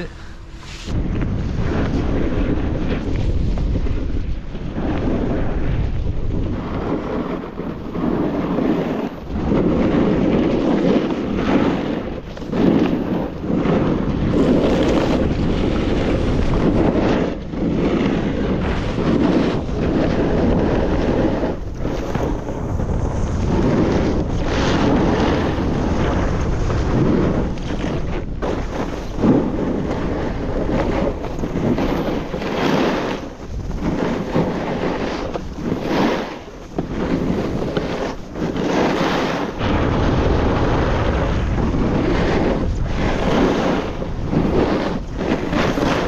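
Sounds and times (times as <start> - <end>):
snowboard scraping over snow: 0.0 - 46.0
wind on microphone: 0.0 - 46.0.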